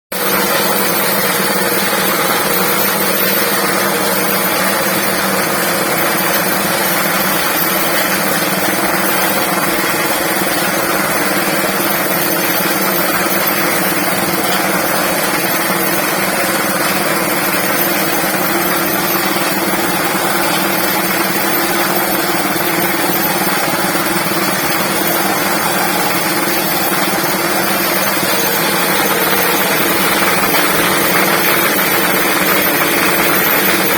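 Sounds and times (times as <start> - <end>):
furnace lining vibrator drone: 0.2 - 33.9.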